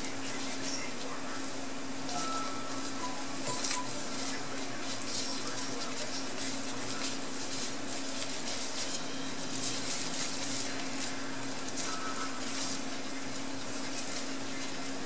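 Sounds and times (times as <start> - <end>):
plastic gloves crinkling: 0.0 - 15.0
steady low hum: 0.0 - 15.0.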